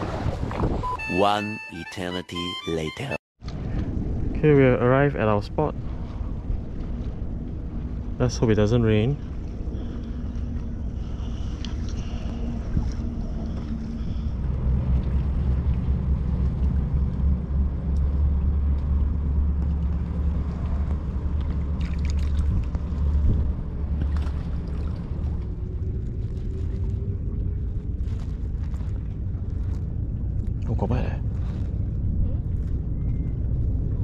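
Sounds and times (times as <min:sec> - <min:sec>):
open water: 0:00.0 - 0:02.7, 0:03.4 - 0:34.0
wind: 0:00.0 - 0:34.0
faint steady hum: 0:03.4 - 0:34.0.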